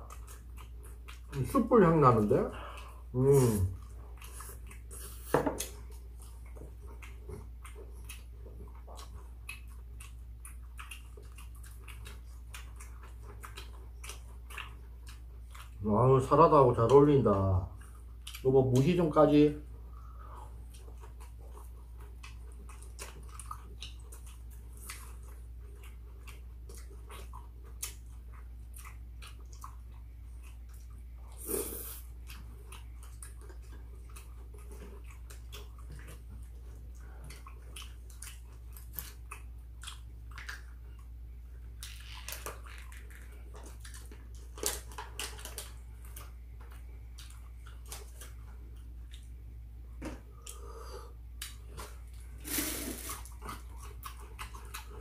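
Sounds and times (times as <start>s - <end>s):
chewing and biting food: 0.0s - 55.0s.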